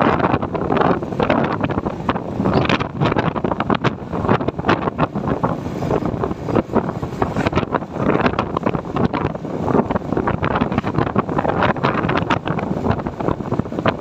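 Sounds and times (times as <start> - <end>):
motorbike riding noise: 0.0 - 14.0
wind buffeting microphone: 0.0 - 14.0.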